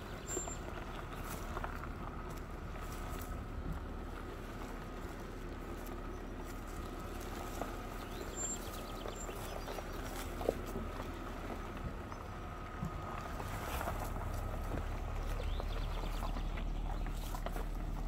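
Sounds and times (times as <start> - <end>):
car engine running low: 0.0 - 18.0
gravel popping under tyres: 0.0 - 18.0.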